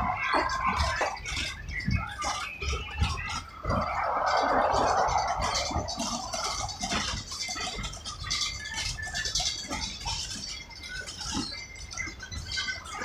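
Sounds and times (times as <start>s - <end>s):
train car rattling and clicking: 0.0s - 13.0s.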